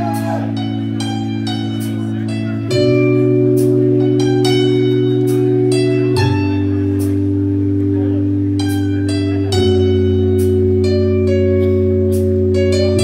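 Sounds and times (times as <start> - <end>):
band playing low chords: 0.0 - 13.0.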